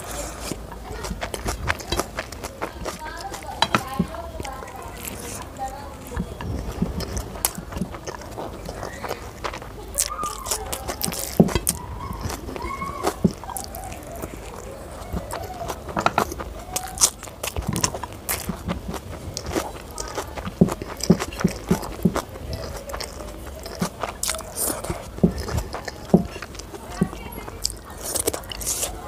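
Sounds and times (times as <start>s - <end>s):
person chewing with lips smacking: 0.0s - 29.0s.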